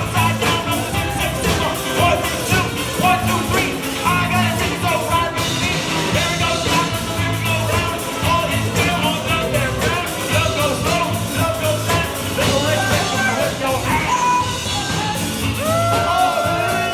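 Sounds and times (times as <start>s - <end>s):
lead singer vocals: 0.0s - 16.9s
rock band playing: 0.0s - 16.9s.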